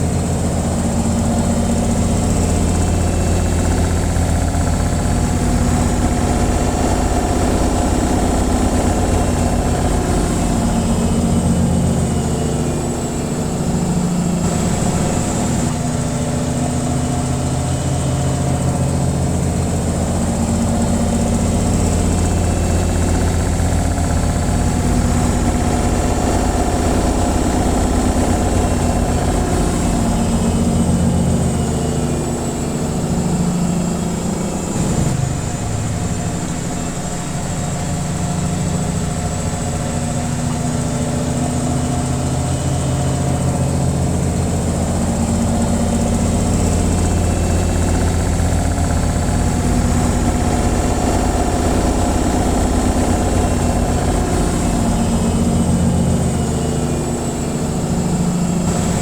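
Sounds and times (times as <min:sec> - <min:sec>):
high whine: 0:00.0 - 0:59.0
washing machine spinning: 0:00.0 - 0:59.0.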